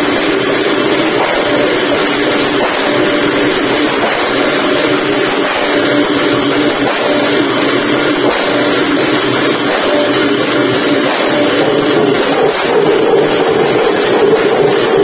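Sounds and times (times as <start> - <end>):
brass cymbals clashing: 0.0 - 15.0
hand drums beating: 0.0 - 15.0.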